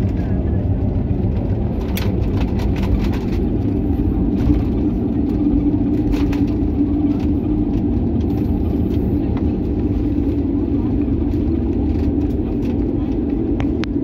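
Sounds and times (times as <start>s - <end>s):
airliner wheels and engines rumbling: 0.0s - 14.0s
steady hum: 0.0s - 14.0s.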